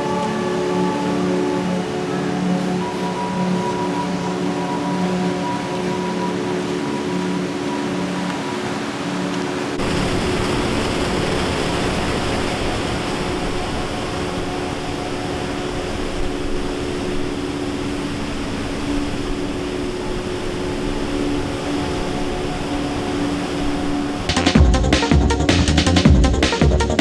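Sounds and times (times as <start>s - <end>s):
soft music drone of held notes: 0.0s - 9.9s, 11.1s - 27.0s
waterfall roar: 0.0s - 24.4s.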